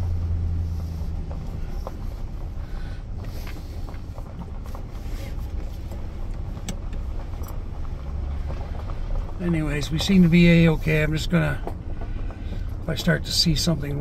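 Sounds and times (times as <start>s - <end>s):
truck engine and tyres rumbling: 0.0s - 14.0s
rattles and knocks from bumps: 0.1s - 14.0s.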